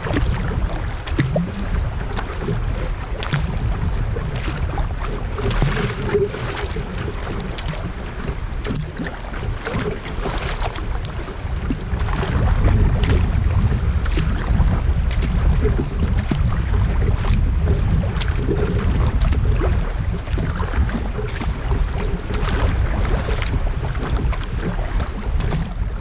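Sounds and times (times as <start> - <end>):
paddle splashes: 0.0 - 26.0
water lapping against hull: 0.0 - 26.0
wind buffeting microphone: 0.0 - 26.0.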